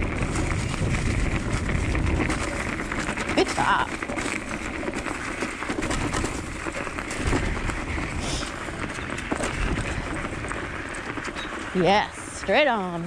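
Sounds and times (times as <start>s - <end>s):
tyres crunching on snow and leaves: 0.0s - 13.0s.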